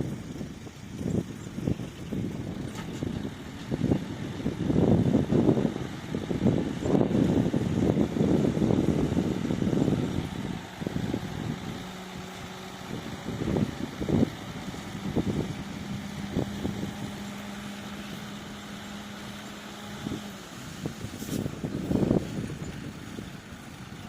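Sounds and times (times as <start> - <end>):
heavy machinery diesel engine humming: 0.0 - 24.0
low buffeting: 0.0 - 24.0.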